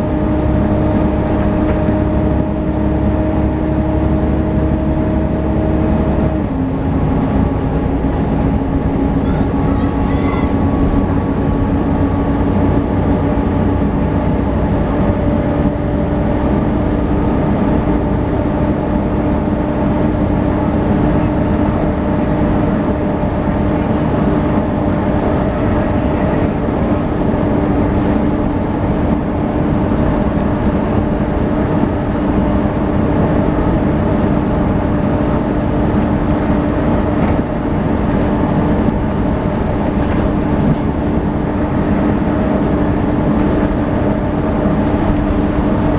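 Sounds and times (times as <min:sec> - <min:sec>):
bus engine drone with whine: 0:00.0 - 0:45.9.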